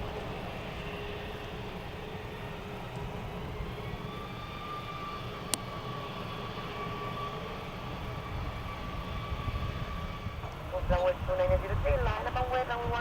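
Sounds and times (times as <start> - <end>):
distant jet engines rumbling and whining: 0.0 - 13.0.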